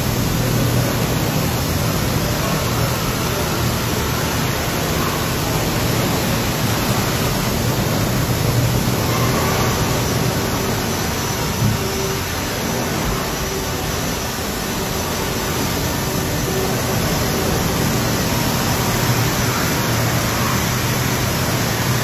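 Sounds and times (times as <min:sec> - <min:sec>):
water jets spraying: 0:00.0 - 0:22.0.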